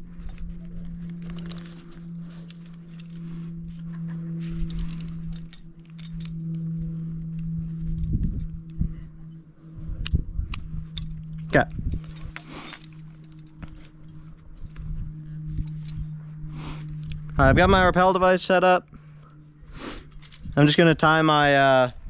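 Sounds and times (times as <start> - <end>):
metal climbing gear clinking: 0.0 - 17.4, 18.9 - 22.0
steady low hum: 0.0 - 22.0.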